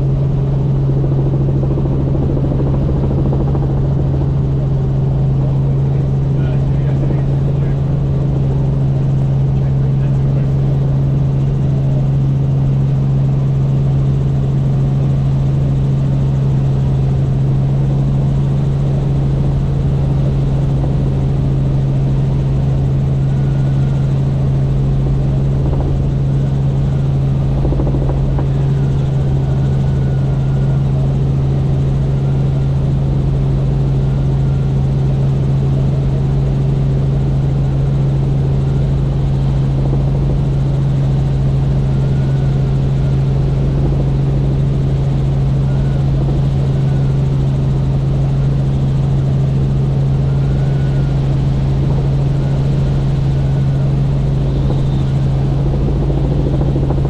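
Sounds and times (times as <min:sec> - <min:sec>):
helicopter flying: 0:00.0 - 0:57.0.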